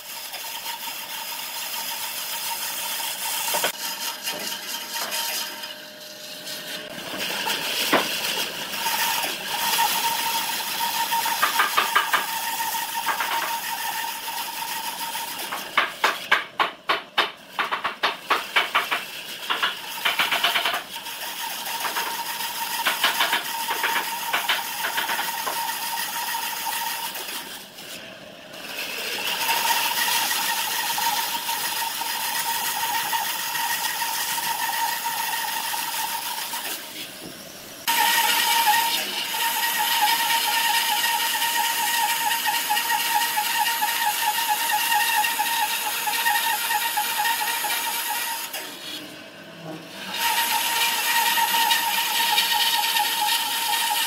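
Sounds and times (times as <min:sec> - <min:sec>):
bandsaw cutting log: 0:00.0 - 0:54.0.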